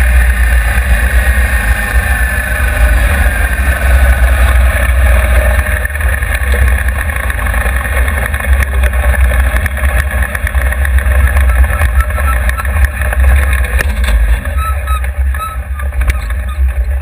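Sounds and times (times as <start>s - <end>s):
race car engine rumbling: 0.0s - 17.0s.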